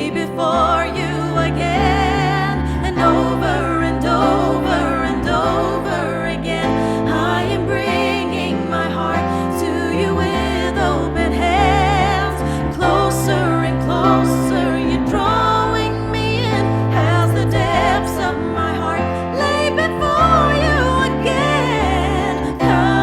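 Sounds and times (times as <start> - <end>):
person singing with vibrato: 0.0 - 23.0.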